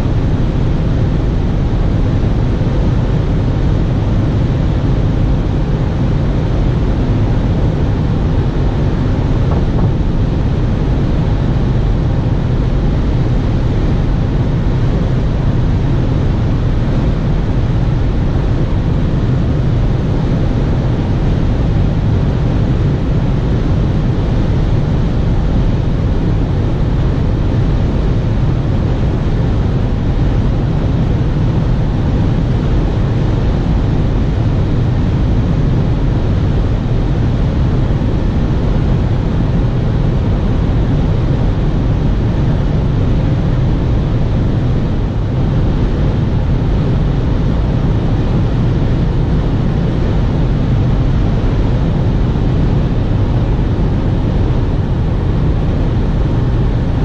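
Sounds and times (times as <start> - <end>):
tyre and wind noise drone: 0.0 - 57.0.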